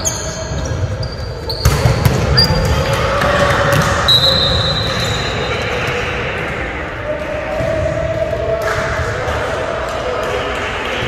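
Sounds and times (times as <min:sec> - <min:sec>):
players' voices: 0:00.0 - 0:11.0.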